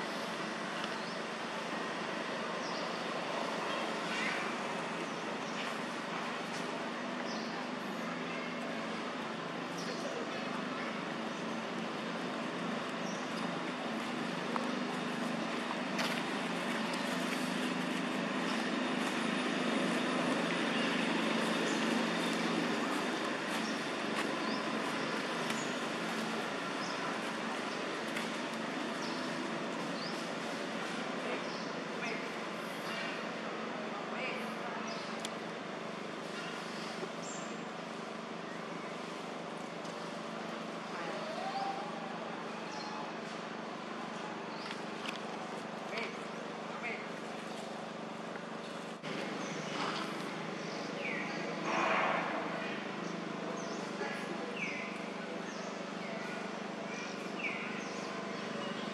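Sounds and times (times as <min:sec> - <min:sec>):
background hum and hiss: 0:00.0 - 0:58.9.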